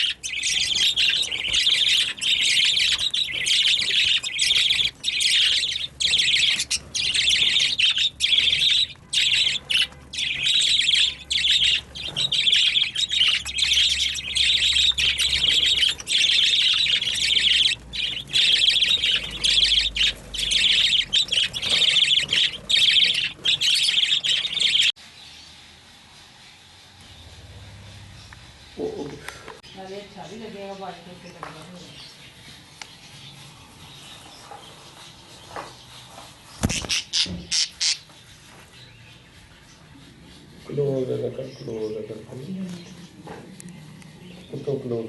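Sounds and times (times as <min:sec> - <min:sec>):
budgerigars chirping: 0:00.0 - 0:25.4, 0:26.5 - 0:45.0.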